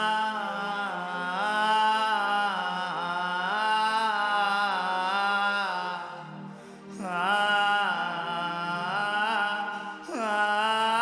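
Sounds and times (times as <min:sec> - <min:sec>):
person singing wordless notes: 0:00.0 - 0:11.0.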